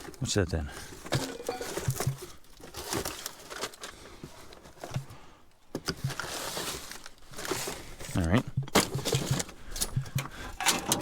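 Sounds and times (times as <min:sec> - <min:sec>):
rummaging through scrap: 0:00.0 - 0:11.0.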